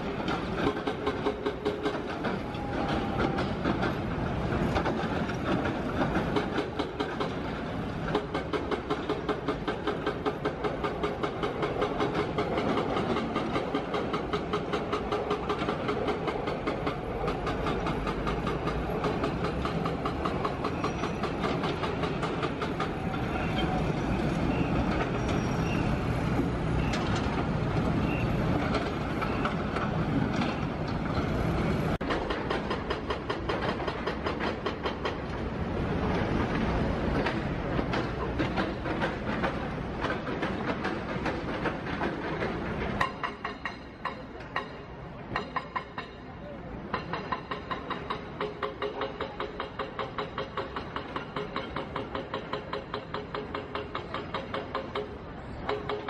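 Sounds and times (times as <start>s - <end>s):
excavators working: 0.0s - 56.0s
train wheels clacking on rails: 0.0s - 56.0s.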